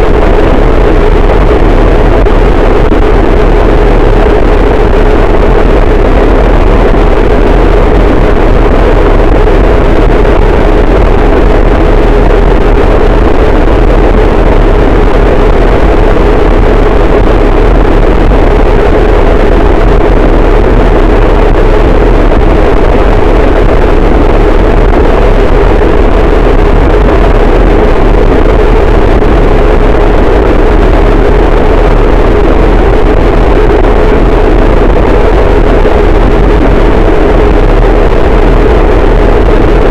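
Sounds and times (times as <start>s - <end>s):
harsh distorted static noise: 0.0s - 39.9s.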